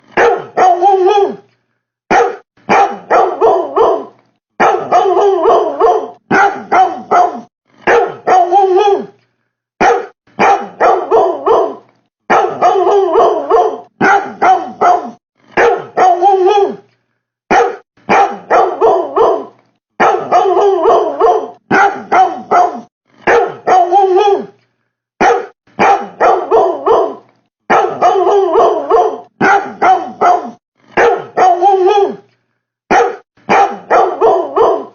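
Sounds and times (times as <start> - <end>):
dog barking: 0.1 - 1.4, 2.1 - 9.1, 9.8 - 16.8, 17.5 - 24.5, 25.2 - 32.2, 32.9 - 34.9.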